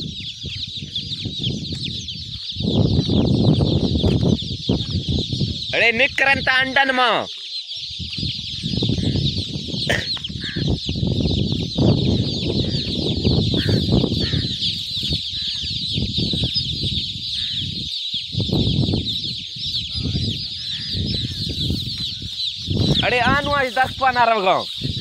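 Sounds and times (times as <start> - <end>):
low rumbling microphone noise: 0.0 - 6.6, 7.8 - 25.0
chicks peeping: 0.0 - 25.0.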